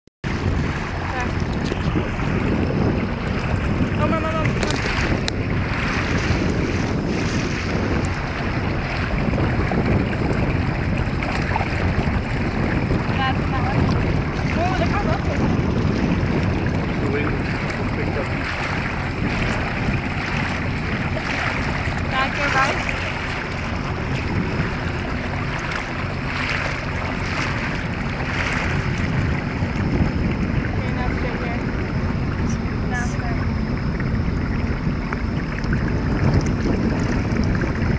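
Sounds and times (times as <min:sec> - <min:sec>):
boat motor hum: 0:00.2 - 0:37.9
water washing along hull: 0:00.2 - 0:37.9
wind buffeting microphone: 0:00.2 - 0:37.9.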